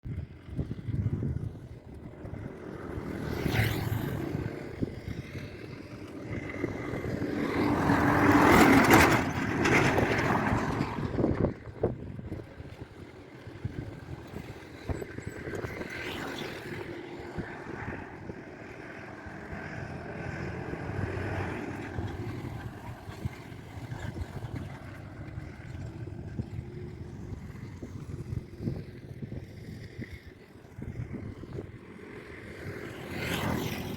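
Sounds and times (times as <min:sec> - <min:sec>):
vehicles driving past: 0:00.1 - 0:33.9.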